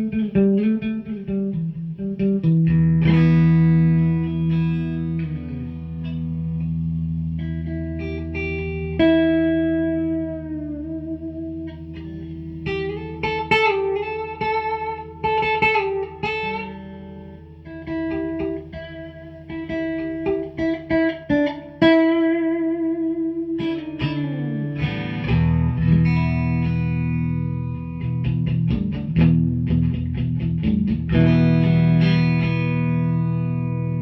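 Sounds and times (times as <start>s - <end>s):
electric guitar with effects: 0.0s - 34.0s.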